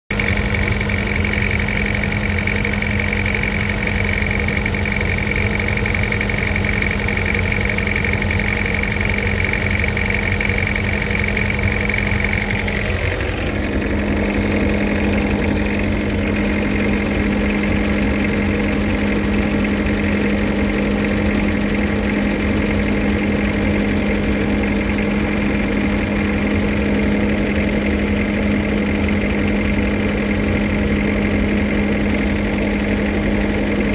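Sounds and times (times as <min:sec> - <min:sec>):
van engine idling: 0:00.1 - 0:33.9.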